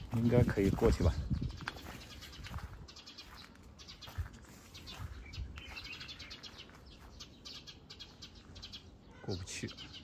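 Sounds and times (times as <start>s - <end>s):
footsteps on dirt path: 0.0s - 8.2s
small birds twittering: 0.0s - 10.0s.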